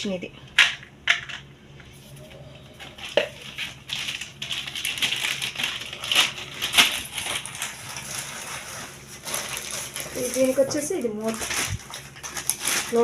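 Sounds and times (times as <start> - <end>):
plastic rustling and scraping: 1.2 - 13.0.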